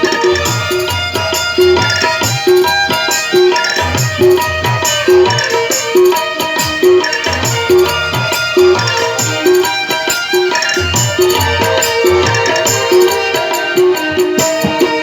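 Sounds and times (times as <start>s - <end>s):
melodic instrumental backing: 0.0s - 15.0s
tabla drumming: 0.0s - 15.0s.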